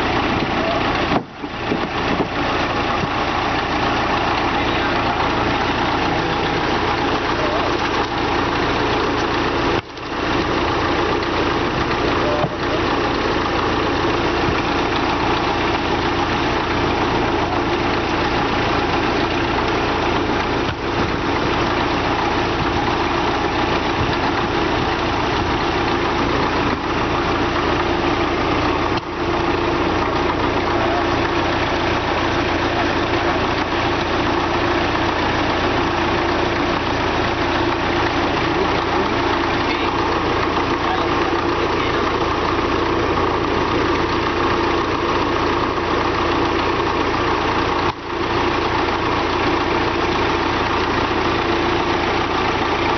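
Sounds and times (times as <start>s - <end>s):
bulldozer diesel engine idling: 0.0s - 52.9s.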